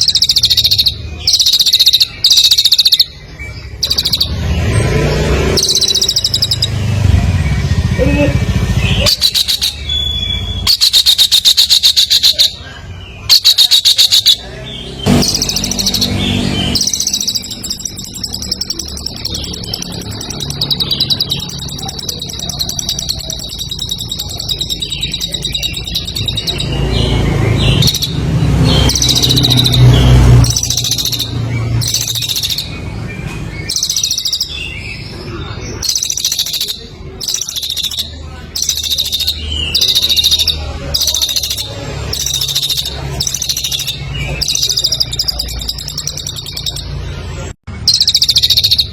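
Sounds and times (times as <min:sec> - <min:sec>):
songbird singing rattling trills: 0:00.0 - 0:48.9.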